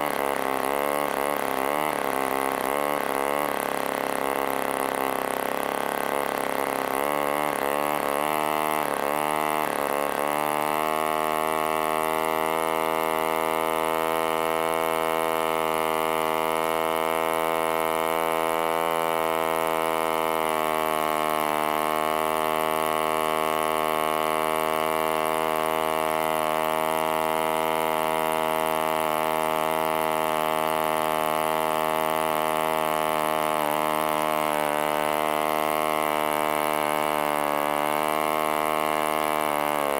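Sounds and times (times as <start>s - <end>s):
model aero engine running: 0.0s - 39.9s.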